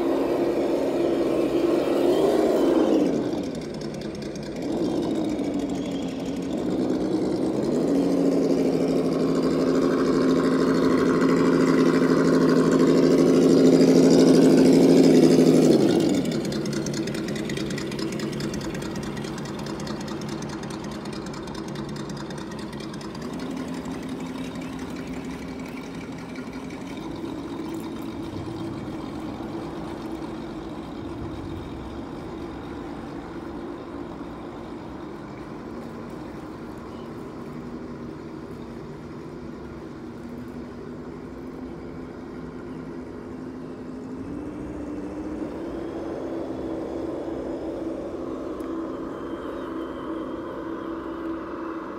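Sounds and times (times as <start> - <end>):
motor drone with held tones: 0.0 - 51.9.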